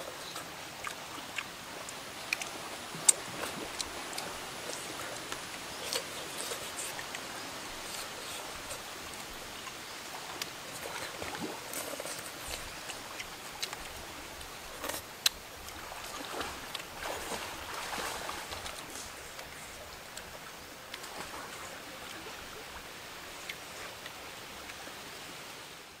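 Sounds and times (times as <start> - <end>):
running stream: 0.0 - 26.0.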